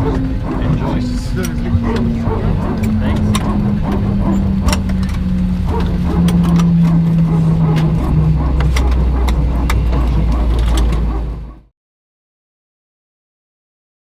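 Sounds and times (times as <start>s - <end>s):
low engine drone: 0.0s - 11.7s.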